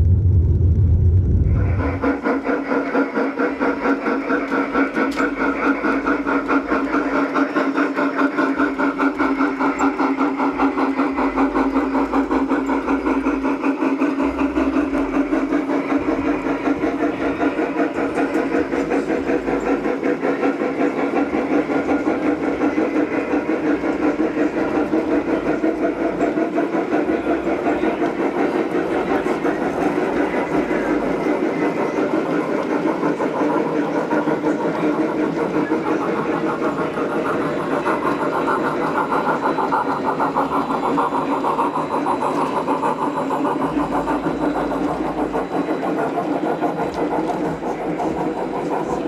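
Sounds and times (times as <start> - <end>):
model steam locomotive chuffing: 1.2 - 49.0.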